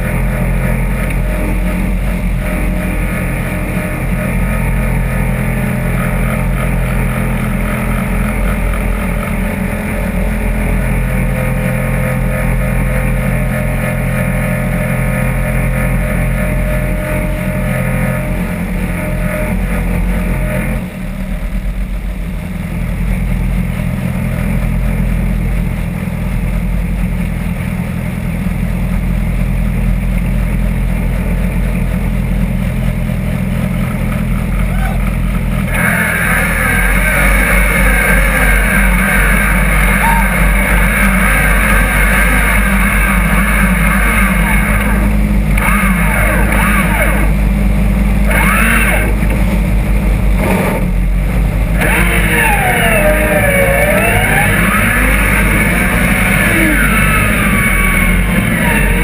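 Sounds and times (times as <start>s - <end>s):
off-road buggy engine running: 0.0s - 59.0s.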